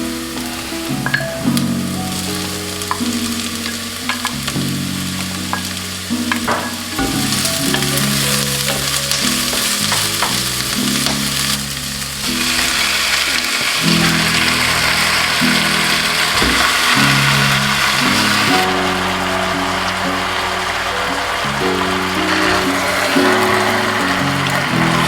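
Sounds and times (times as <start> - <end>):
vegetables sizzling in a pan: 0.0 - 25.0.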